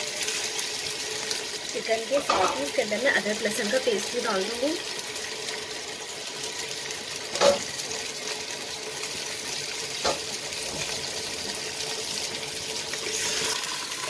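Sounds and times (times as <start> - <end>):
chicken sizzling in hot fat: 0.0 - 14.0.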